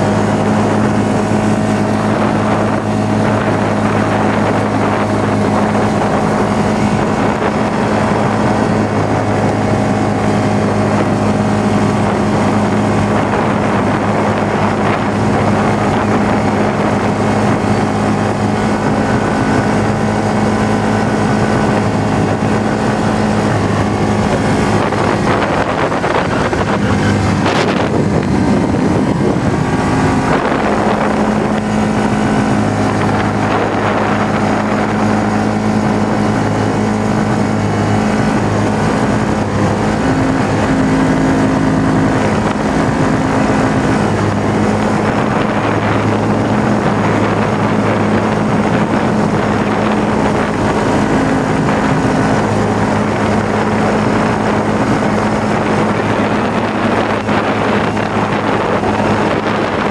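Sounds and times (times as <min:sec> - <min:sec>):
engine droning at speed: 0:00.0 - 0:59.9
wind on microphone: 0:00.0 - 0:59.9.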